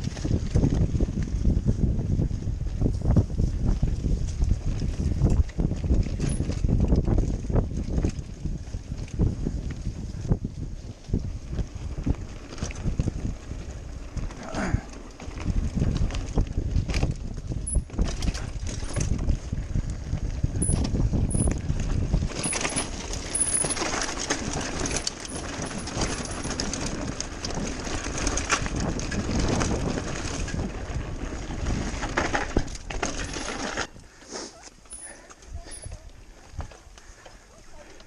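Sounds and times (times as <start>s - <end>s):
wind rumble on microphone: 0.0s - 34.2s
bike rattling on dirt trail: 0.0s - 38.0s.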